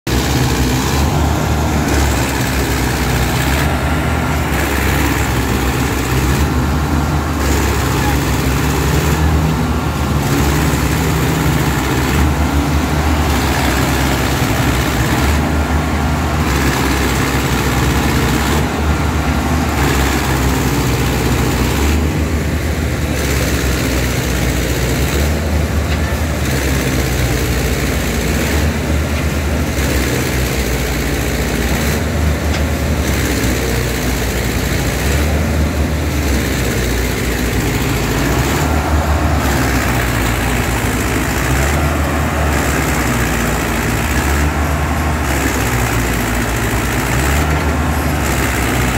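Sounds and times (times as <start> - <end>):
tractor diesel engines under load: 0.0 - 48.9.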